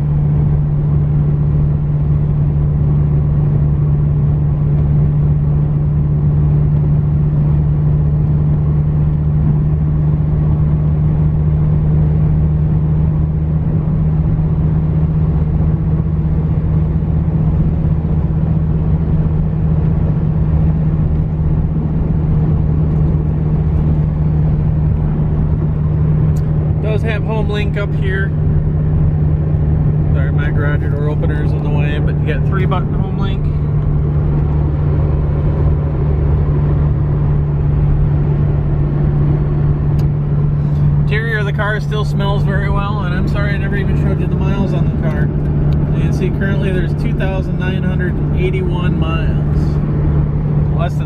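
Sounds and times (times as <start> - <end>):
car engine idling: 0.0 - 51.0.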